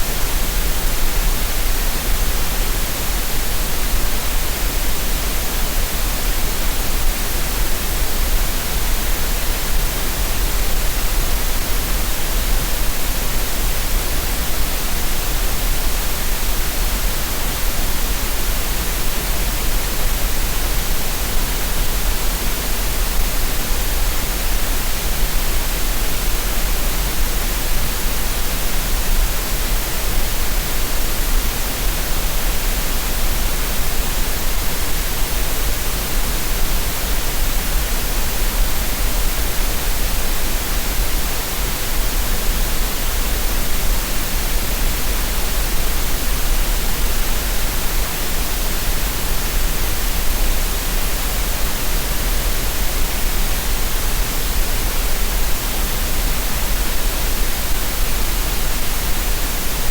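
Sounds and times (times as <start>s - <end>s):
steady green noise hiss: 0.0s - 59.9s.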